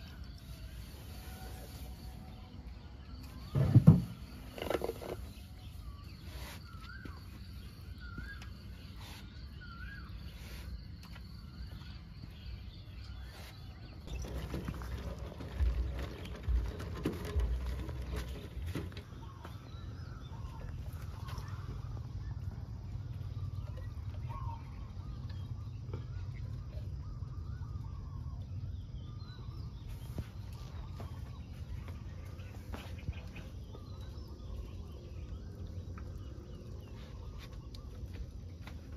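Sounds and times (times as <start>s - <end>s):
birds chirping: 0.0s - 38.9s
low background hum: 5.2s - 38.9s.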